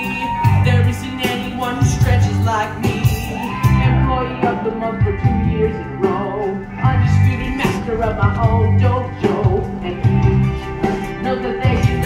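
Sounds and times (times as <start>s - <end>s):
upbeat pop-rock music: 0.0s - 12.0s.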